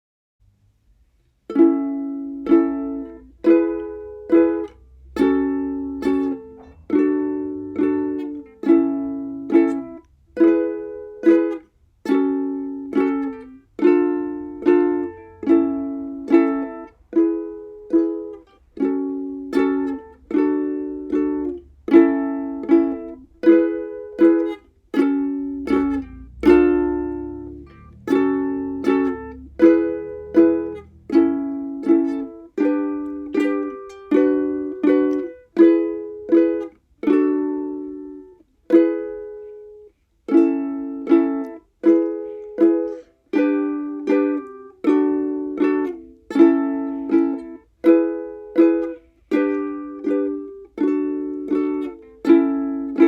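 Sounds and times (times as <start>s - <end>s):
ukulele strumming chords: 0.9s - 53.0s.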